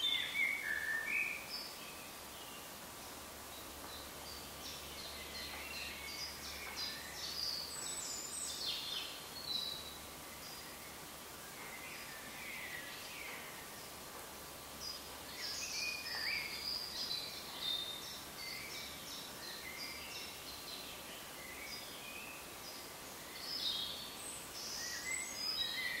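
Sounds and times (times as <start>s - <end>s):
songbirds chirping and whistling: 0.0s - 26.0s
steady background hiss: 0.0s - 26.0s.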